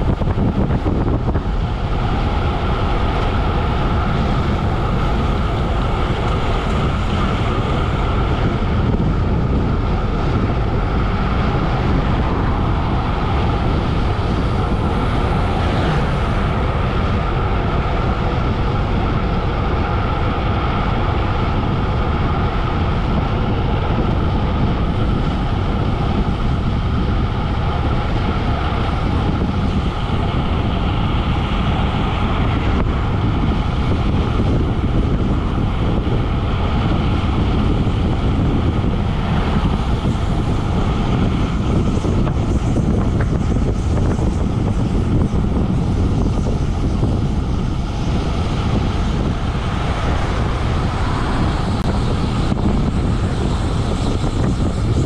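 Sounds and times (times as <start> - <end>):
bike tyre noise: 0.0 - 55.0
wind rush on microphone: 0.0 - 55.0.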